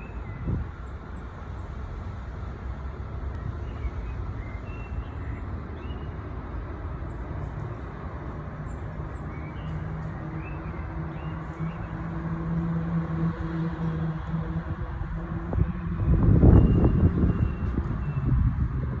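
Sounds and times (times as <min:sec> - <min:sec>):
low engine hum: 0:00.0 - 0:19.0
low rumble of traffic or wind: 0:00.0 - 0:19.0.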